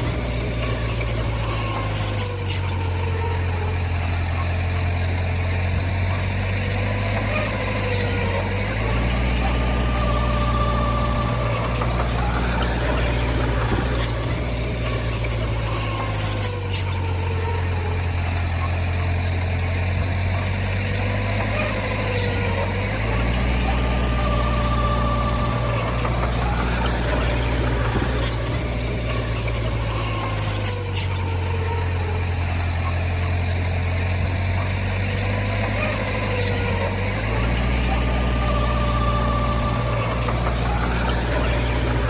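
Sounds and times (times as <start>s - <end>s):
heavy diesel engine droning: 0.0s - 42.0s
whining tone: 0.0s - 42.0s.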